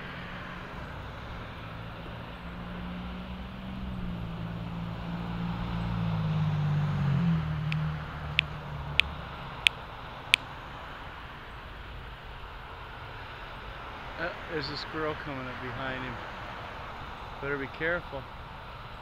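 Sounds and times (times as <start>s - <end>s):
passing vehicle engine hum: 0.0s - 19.0s.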